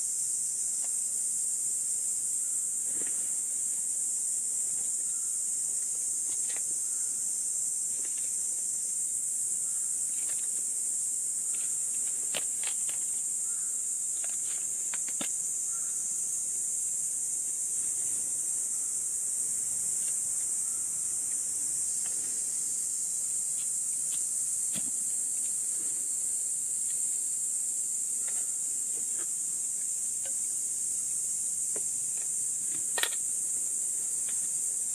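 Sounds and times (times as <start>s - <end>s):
insects chorus: 0.0s - 34.9s.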